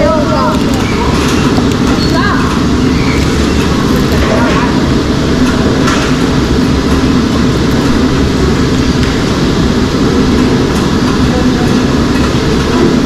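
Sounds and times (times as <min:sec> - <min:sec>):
mechanical rumble with deep hum: 0:00.0 - 0:13.0.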